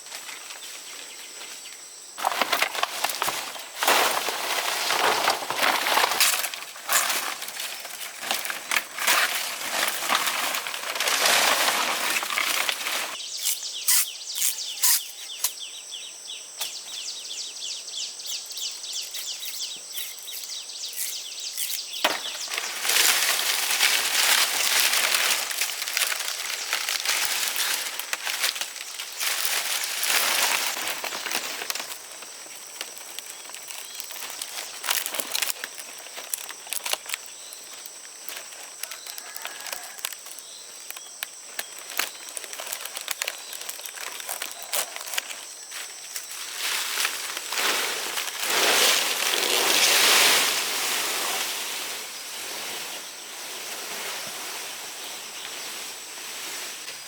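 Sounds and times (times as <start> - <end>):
dry plant stalks rustling: 2.2 - 15.6, 18.3 - 57.0.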